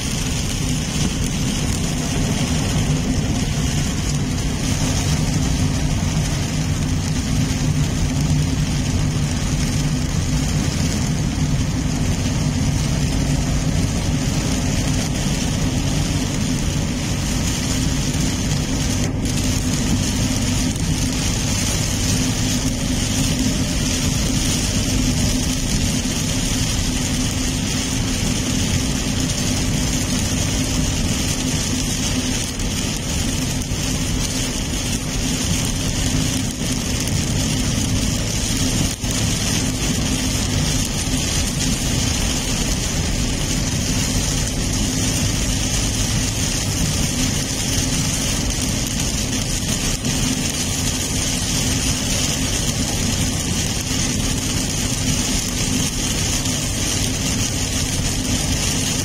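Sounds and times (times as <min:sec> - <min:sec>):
car engine: 0:00.0 - 0:59.0
rain hitting windshield and roof: 0:00.0 - 0:59.0
tyres on wet road: 0:00.0 - 0:59.0.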